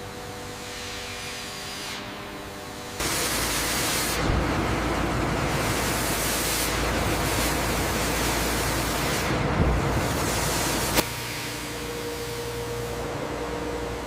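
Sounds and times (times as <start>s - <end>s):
wood-processing machinery hiss: 0.4s - 13.1s.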